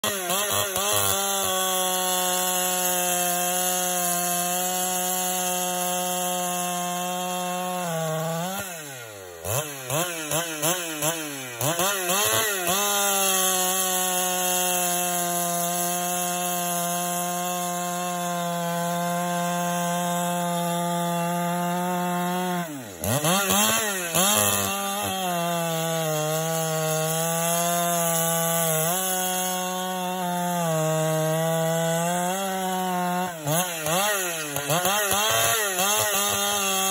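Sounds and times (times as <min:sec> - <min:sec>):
chainsaw cutting wood at high revs: 0:00.0 - 0:36.9.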